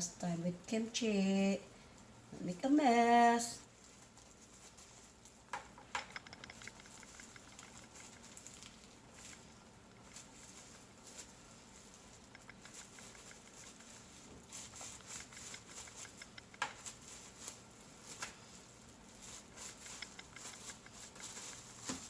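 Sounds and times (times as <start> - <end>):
hands rolling sushi rustling: 3.7 - 22.0.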